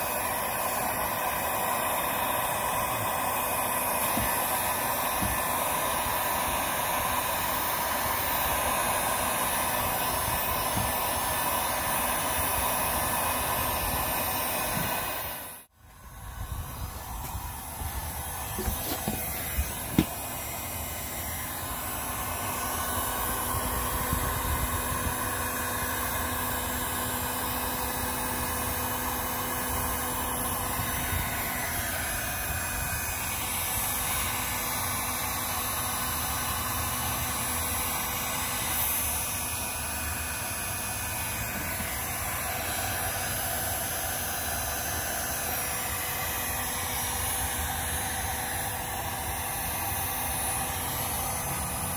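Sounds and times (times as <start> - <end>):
heat gun fan blowing: 0.0 - 51.9.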